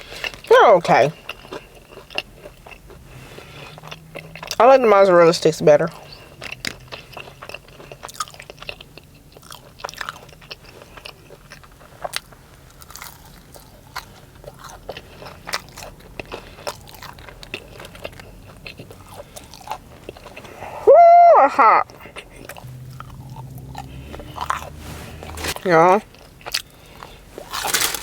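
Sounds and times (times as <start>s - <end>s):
person chewing crispy food: 0.0s - 4.6s, 5.9s - 20.8s, 21.8s - 28.0s.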